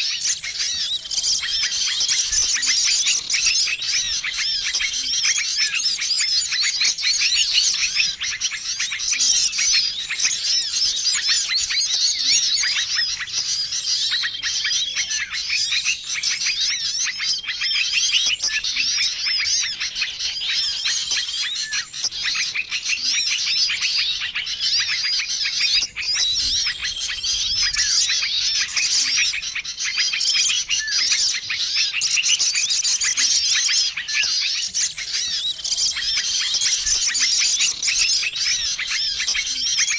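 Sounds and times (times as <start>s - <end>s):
songbirds chirping chorus: 0.0s - 39.9s.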